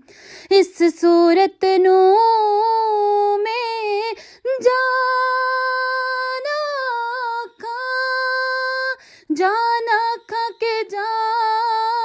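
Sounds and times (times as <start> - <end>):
high voice singing unaccompanied: 0.5 - 12.0.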